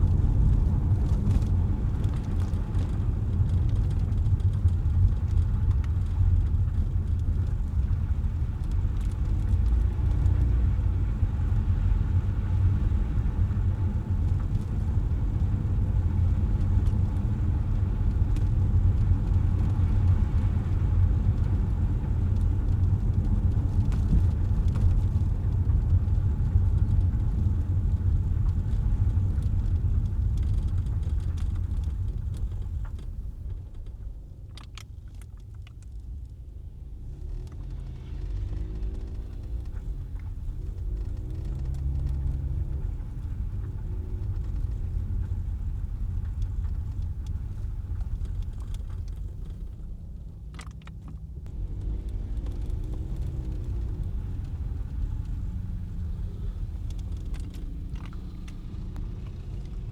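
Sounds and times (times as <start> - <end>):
car engine hum: 0.0 - 59.9
tyre noise on wet road: 0.0 - 59.9.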